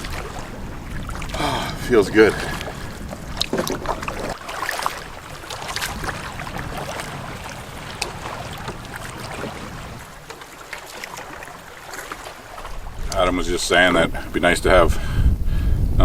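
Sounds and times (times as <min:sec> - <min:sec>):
small splashes and knocks: 0:00.0 - 0:13.3
water lapping against canoe: 0:00.0 - 0:15.8
wind buffeting microphone: 0:00.0 - 0:16.0.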